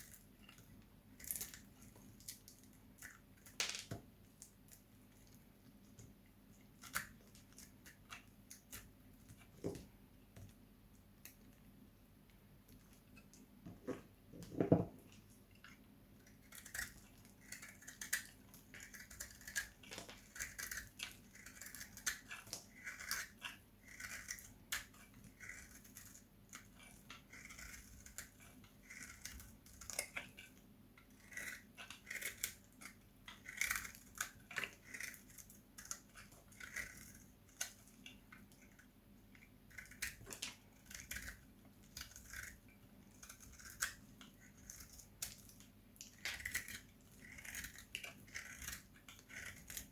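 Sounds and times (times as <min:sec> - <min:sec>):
knife scraping bar soap: 0:00.0 - 0:10.6, 0:12.7 - 0:49.9.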